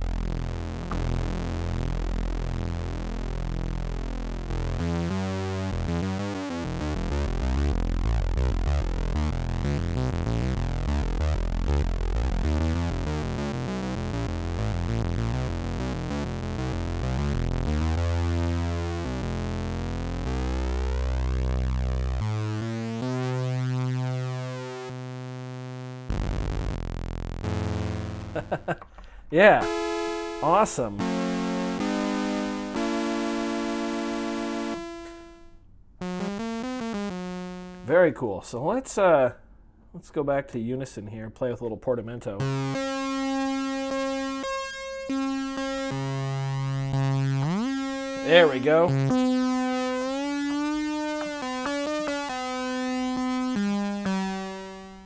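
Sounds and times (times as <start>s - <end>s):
synthesizer notes: 0.0s - 28.7s, 29.4s - 38.0s, 42.4s - 55.0s.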